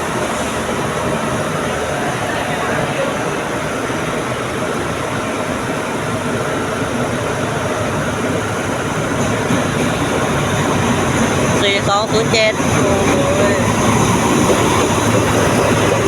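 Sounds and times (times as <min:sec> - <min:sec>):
diesel locomotive rumbling: 0:00.0 - 0:16.0
train wheels rolling: 0:00.0 - 0:16.0.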